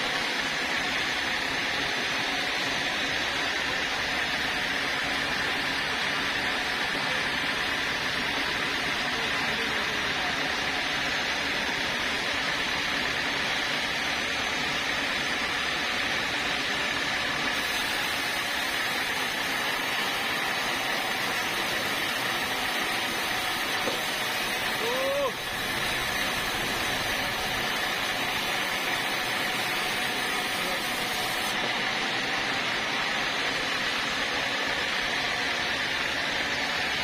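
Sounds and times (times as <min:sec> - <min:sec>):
sawmill saw whining: 0:00.0 - 0:37.0.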